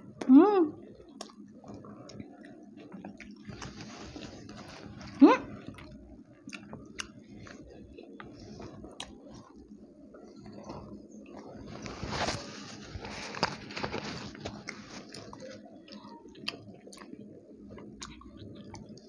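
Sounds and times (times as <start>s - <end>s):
people chewing crispy sandwiches: 0.8s - 19.0s.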